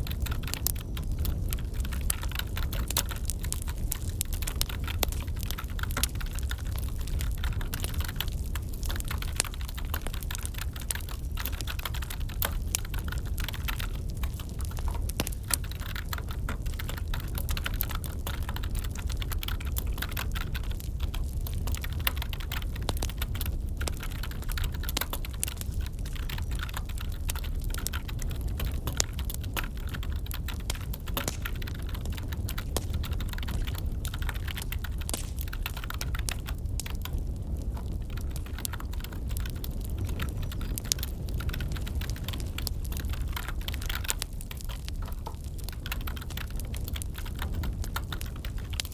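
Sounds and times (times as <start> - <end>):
wood fire crackling: 0.0 - 48.9
computer keyboard typing: 0.1 - 48.9.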